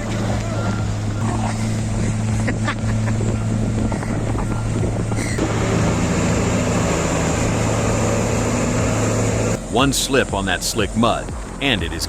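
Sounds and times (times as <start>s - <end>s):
wind noise on microphone: 0.0s - 9.9s
engine humming: 0.0s - 12.0s.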